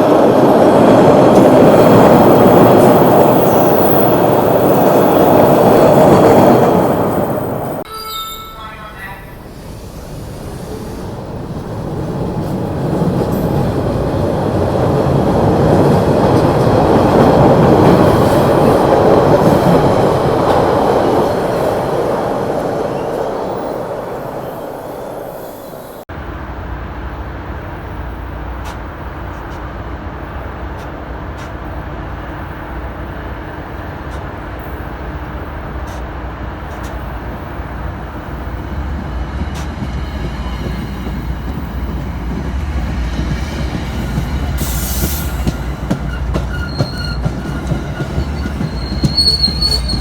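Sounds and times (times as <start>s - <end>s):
train rumbling past: 0.0s - 50.0s.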